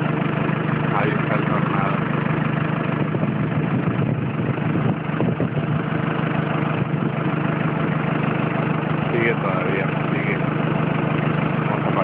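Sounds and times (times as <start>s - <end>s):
machine engine idling: 0.0s - 12.0s.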